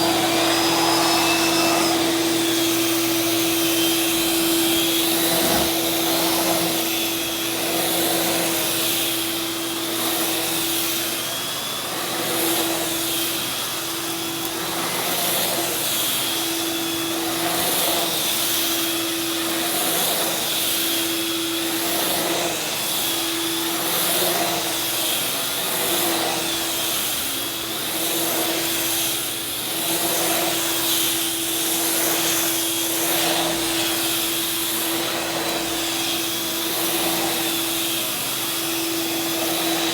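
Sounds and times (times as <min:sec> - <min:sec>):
vacuum cleaner on carpet: 0:00.0 - 0:39.9.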